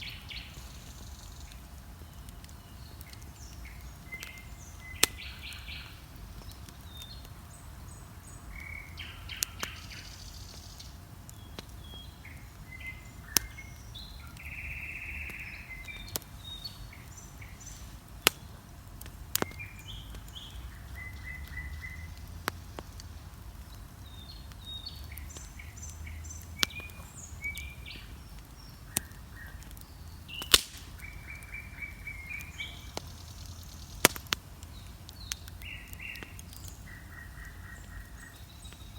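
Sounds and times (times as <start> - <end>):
songbirds chirping and singing: 0.0 - 18.6, 19.4 - 38.9
bonfire crackling and popping: 0.0 - 38.9.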